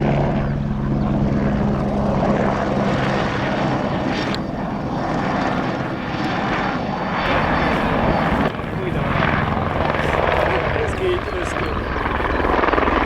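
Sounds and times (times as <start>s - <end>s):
helicopter rotor beat: 0.0s - 13.0s
steady low hum: 0.0s - 13.0s.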